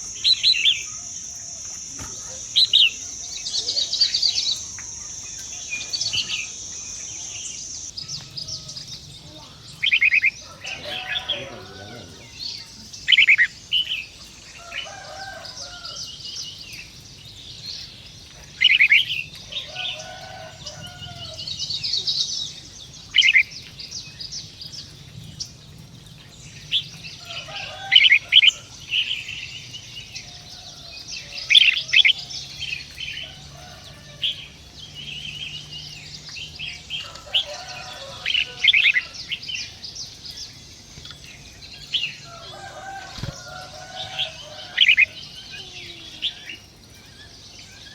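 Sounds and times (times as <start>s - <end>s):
birds chirping and trilling: 0.0s - 47.9s.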